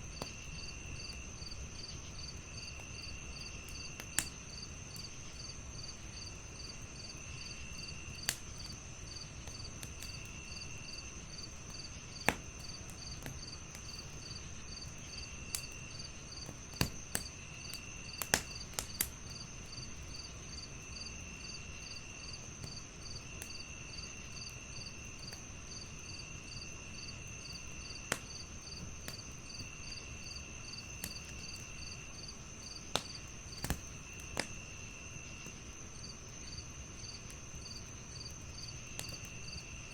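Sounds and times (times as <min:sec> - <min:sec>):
crickets chirping and trilling: 0:00.0 - 0:39.9
fireplace crackling and popping: 0:00.0 - 0:39.9.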